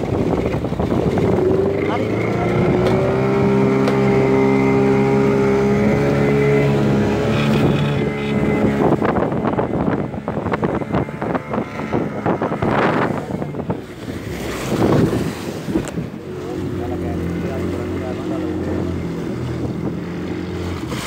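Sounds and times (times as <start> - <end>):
outboard motor running: 0.0 - 21.0
waves splashing: 0.0 - 21.0
wind buffeting microphone: 0.0 - 21.0.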